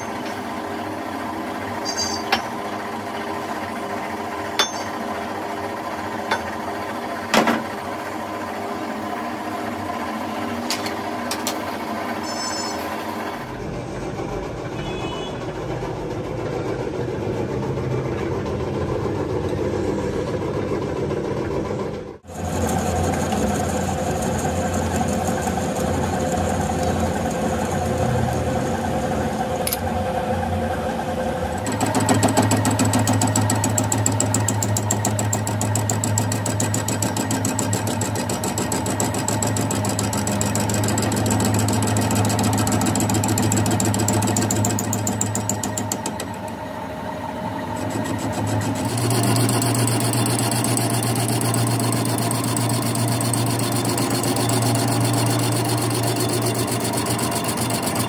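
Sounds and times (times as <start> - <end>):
lathe motor and gear hum: 0.0 - 58.0.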